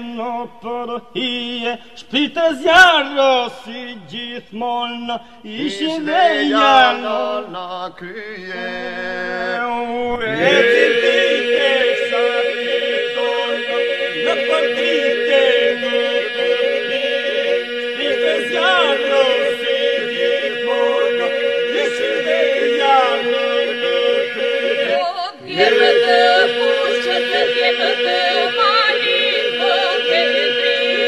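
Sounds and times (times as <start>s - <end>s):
voices singing folk song: 0.0s - 31.0s.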